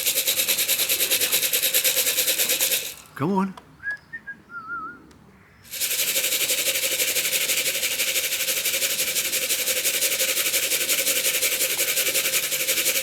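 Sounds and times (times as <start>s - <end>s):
grain rattling in shaken tin: 0.0s - 3.2s, 5.7s - 13.0s.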